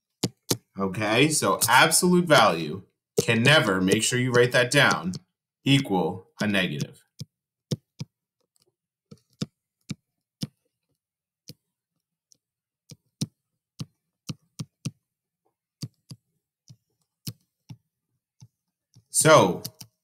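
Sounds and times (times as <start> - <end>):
stylus tapping touchscreen: 0.0 - 0.8, 1.6 - 20.0.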